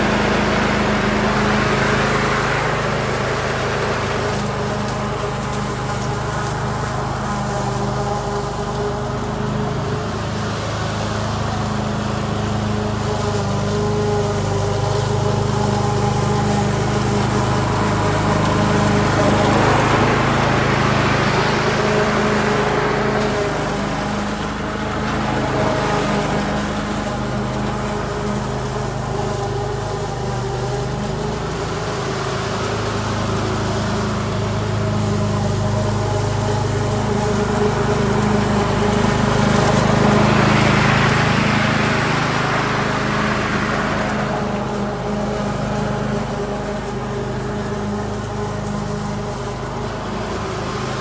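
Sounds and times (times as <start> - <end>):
petrol lawn mower engine running: 0.0 - 51.0.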